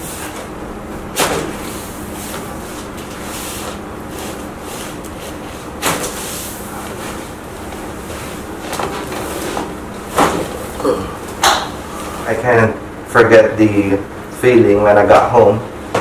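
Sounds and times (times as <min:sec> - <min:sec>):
room noise: 0:00.0 - 0:16.0.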